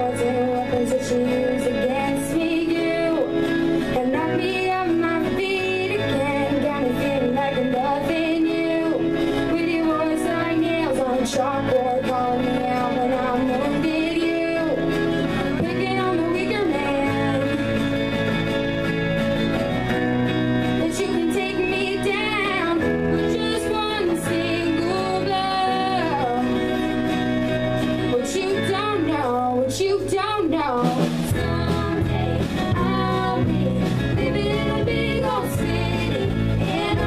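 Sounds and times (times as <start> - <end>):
woman singing: 0.0 - 18.0, 20.8 - 27.0, 28.0 - 37.0
acoustic guitar: 0.0 - 37.0.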